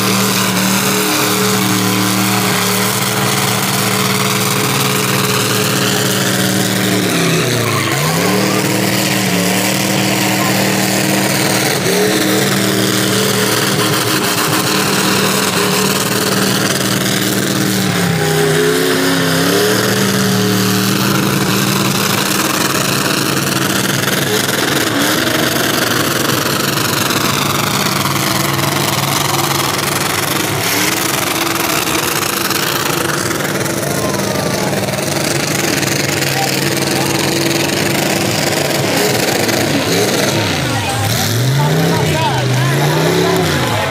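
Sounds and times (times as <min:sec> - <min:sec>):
car engine revving high: 0:00.0 - 0:43.9.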